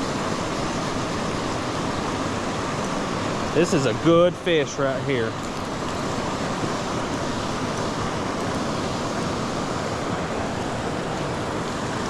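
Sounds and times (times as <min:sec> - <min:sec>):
water pouring over waterfall: 0:00.0 - 0:12.0.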